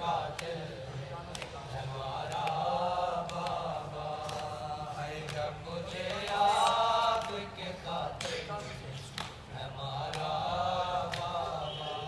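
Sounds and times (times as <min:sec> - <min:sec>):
men chanting a lament: 0:00.0 - 0:12.0.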